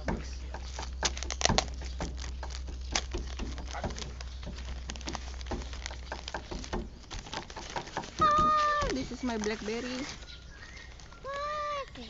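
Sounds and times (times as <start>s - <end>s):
plastic packaging crackling: 0.0s - 12.0s
steady low hum: 0.0s - 12.0s.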